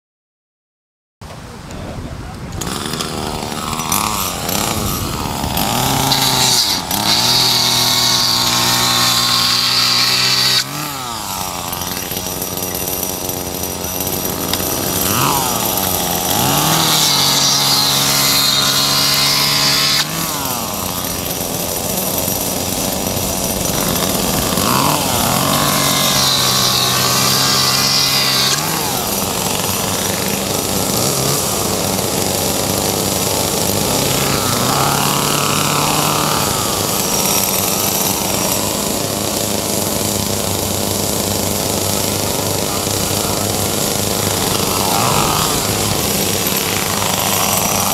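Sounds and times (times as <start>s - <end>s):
chainsaw engines revving: 2.4s - 47.9s.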